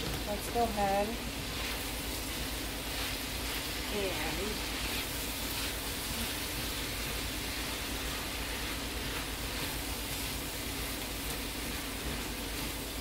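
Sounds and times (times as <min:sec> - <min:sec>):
food sizzling in skillet: 0:00.0 - 0:13.0.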